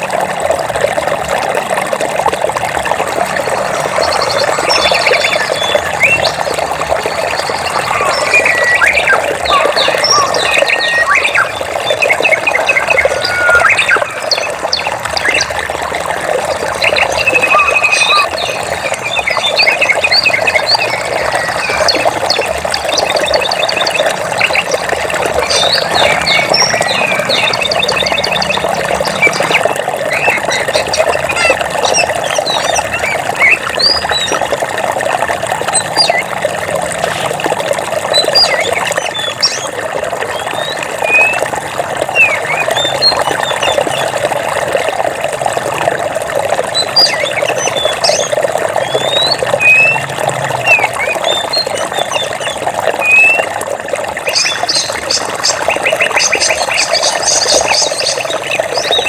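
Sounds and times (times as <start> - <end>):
water trickling: 0.0 - 59.0
birds chirping: 2.2 - 45.0, 46.5 - 59.0.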